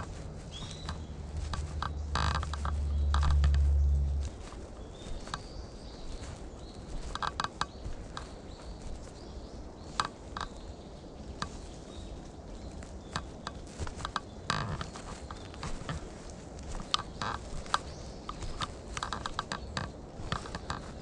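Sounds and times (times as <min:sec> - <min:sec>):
footsteps crunching on path: 0:00.0 - 0:21.0.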